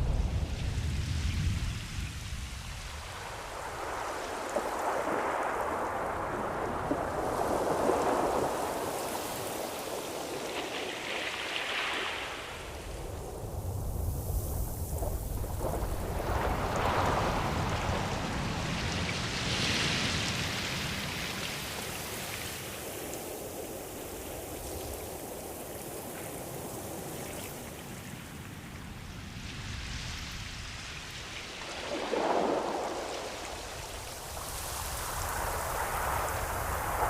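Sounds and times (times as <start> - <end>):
ocean waves washing: 0.0 - 37.0.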